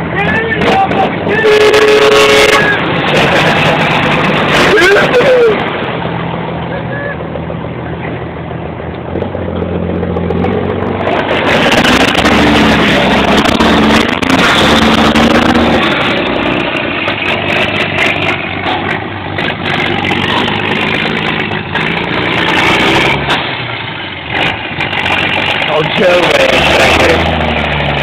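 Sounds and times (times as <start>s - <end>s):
wide rushing noise: 0.0s - 8.8s, 9.4s - 28.0s
truck engine revving: 0.0s - 28.0s.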